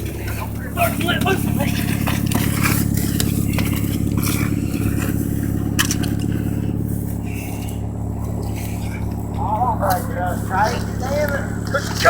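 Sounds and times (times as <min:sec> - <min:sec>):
engine droning: 0:00.0 - 0:12.0
scuffling and scraping: 0:00.0 - 0:12.0.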